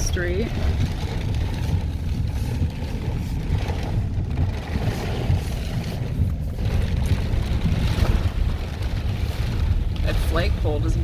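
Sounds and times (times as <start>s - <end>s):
gusting wind buffeting microphone: 0.0s - 11.0s.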